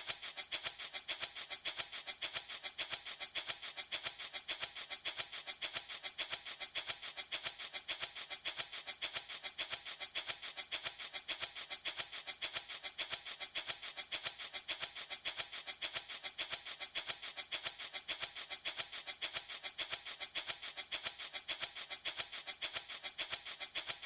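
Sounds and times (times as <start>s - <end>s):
wooden baby rattle shaken: 0.0s - 24.0s.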